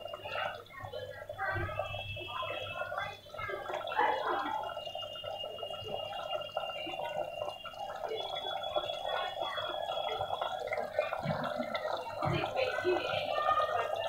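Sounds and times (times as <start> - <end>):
crackle of popping bubbles: 0.0 - 14.0
meat frying in oil: 0.0 - 14.0.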